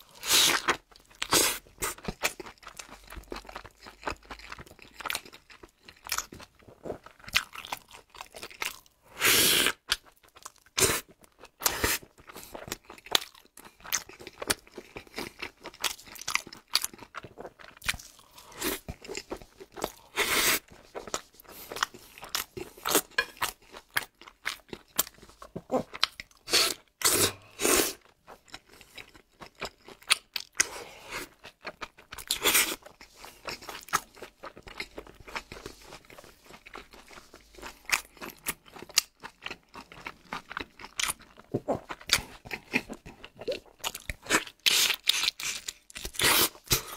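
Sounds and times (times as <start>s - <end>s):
person chewing crisp bun: 0.0s - 46.9s.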